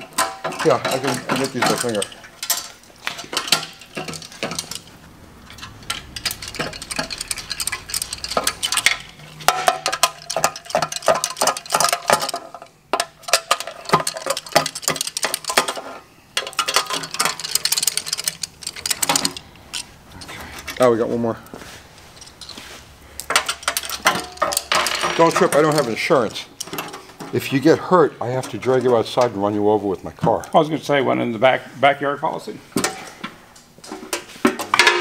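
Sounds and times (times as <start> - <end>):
metal bolts clicking and rattling: 0.0 - 21.4, 22.1 - 22.6, 23.2 - 29.5.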